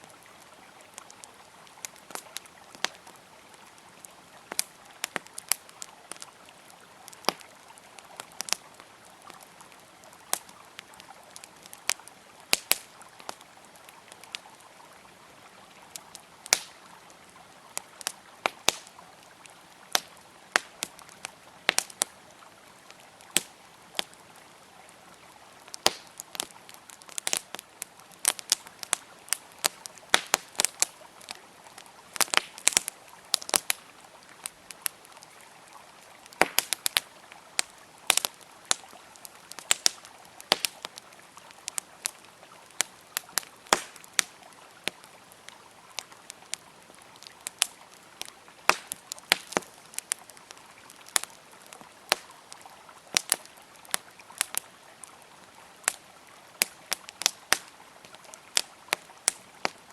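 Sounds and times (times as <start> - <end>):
campfire crackling and popping: 0.0 - 59.9
flowing river water: 0.0 - 59.9.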